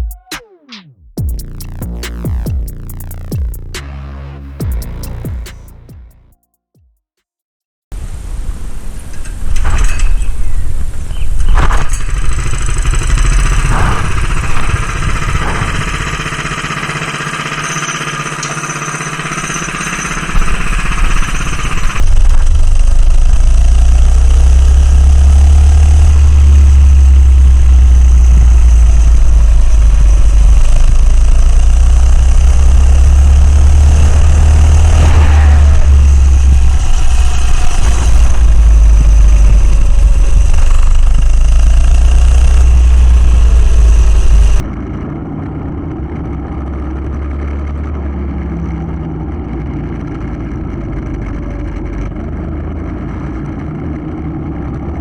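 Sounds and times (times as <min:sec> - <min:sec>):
minibike engine revving: 0:09.6 - 0:55.0.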